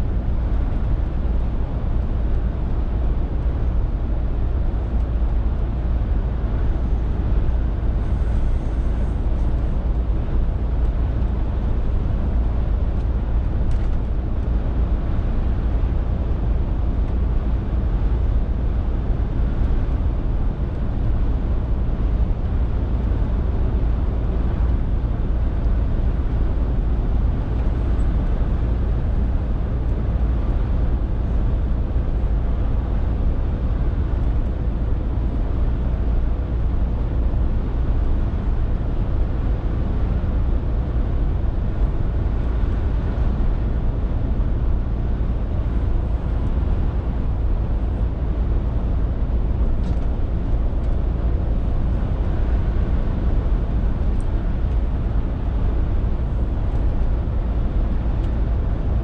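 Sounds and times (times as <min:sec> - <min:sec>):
road noise: 0:00.0 - 0:58.7.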